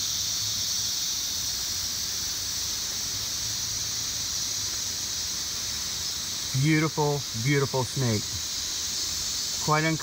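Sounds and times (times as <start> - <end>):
insect chorus hissing: 0.0 - 10.0.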